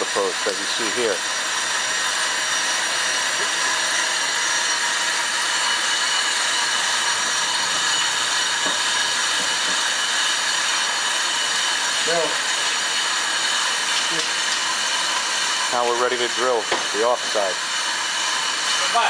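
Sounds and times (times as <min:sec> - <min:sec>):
shop noise hiss: 0:00.0 - 0:01.6, 0:02.4 - 0:19.0.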